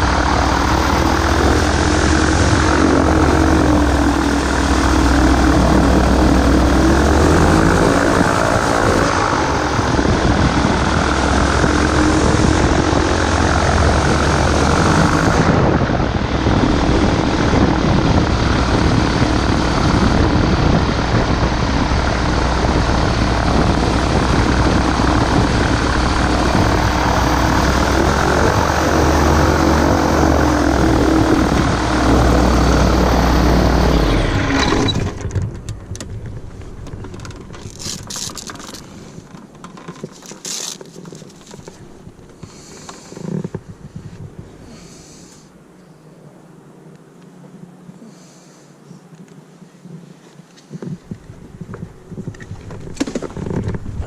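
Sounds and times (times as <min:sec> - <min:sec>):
light aircraft engine and propeller: 0:00.0 - 0:54.0.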